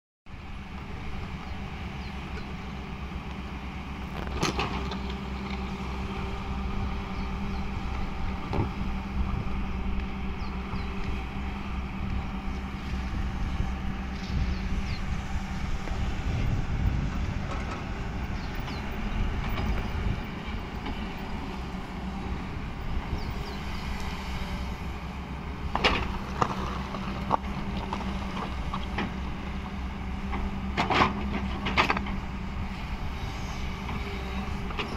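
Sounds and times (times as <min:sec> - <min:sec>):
excavator diesel engine running: 0:00.3 - 0:34.9.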